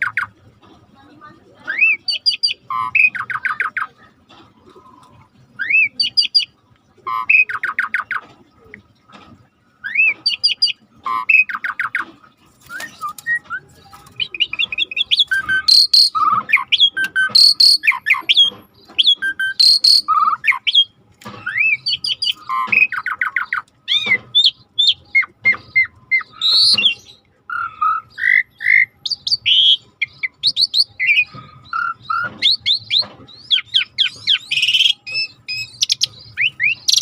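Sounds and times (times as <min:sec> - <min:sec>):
starling singing: 0:01.6 - 0:04.0, 0:04.7 - 0:08.2, 0:09.8 - 0:37.0.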